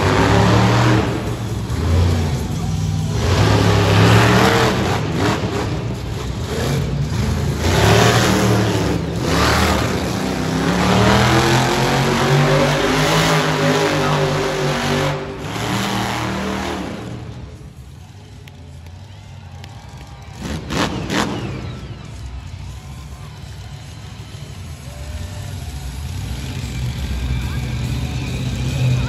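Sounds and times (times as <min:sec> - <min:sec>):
truck engine revving: 0:00.0 - 0:19.0, 0:19.9 - 0:29.0.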